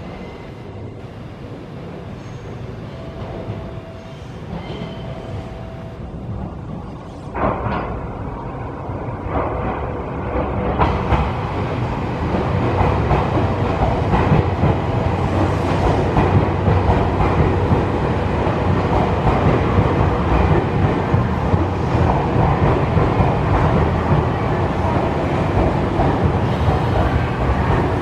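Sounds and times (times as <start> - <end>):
electric train rumble and wheel clatter: 0.0 - 28.0.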